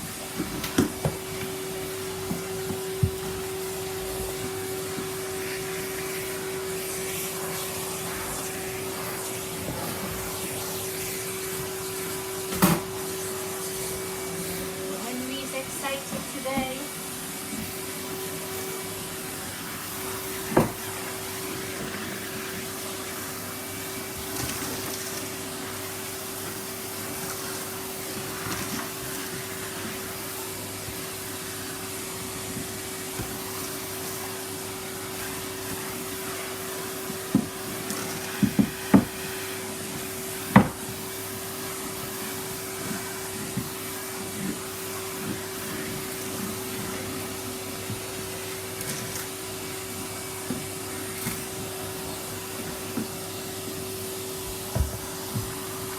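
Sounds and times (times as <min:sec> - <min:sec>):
vacuum cleaner motor hum: 0:00.0 - 0:55.9.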